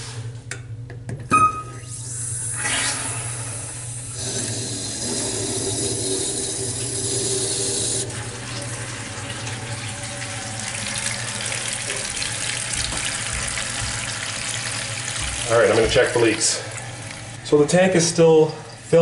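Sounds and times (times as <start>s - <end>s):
water filling toilet tank: 1.3s - 19.0s.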